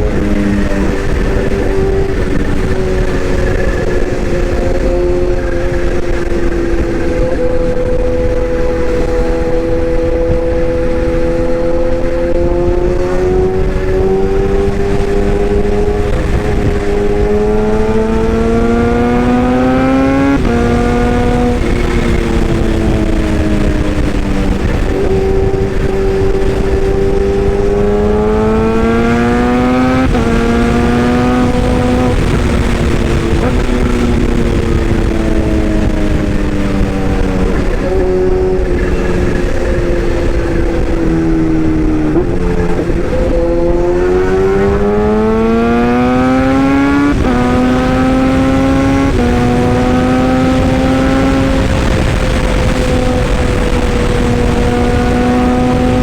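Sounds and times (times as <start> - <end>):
vehicle engine running under load: 0.0 - 56.0.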